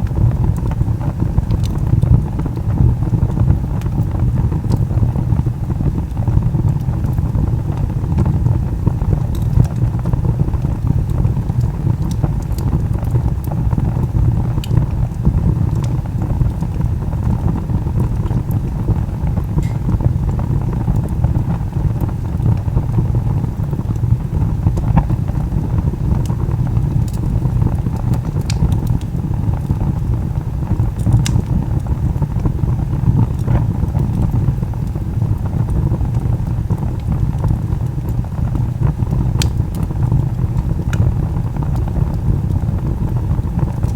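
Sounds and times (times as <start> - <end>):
burning log crackling and popping: 0.0 - 43.9
fire roaring: 0.0 - 43.9.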